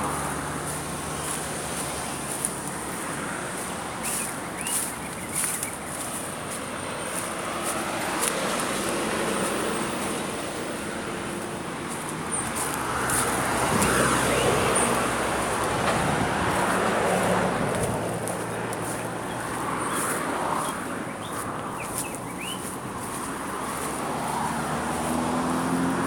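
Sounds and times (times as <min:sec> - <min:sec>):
traffic noise: 0:00.0 - 0:26.0
vehicle passing: 0:00.0 - 0:26.0.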